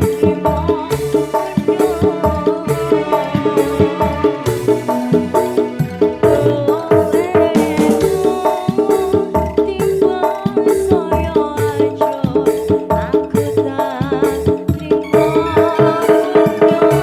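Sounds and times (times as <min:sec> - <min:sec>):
brisk drum rhythm: 0:00.0 - 0:17.0
wavering melody line: 0:00.0 - 0:17.0.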